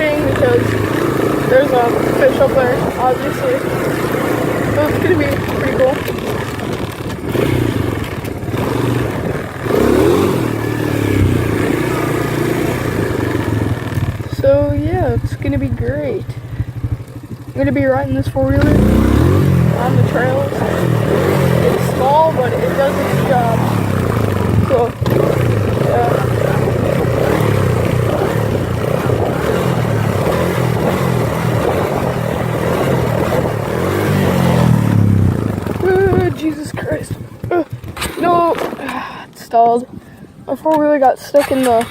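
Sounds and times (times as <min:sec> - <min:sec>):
quad bike engine revving: 0:00.0 - 0:40.0, 0:40.6 - 0:41.9.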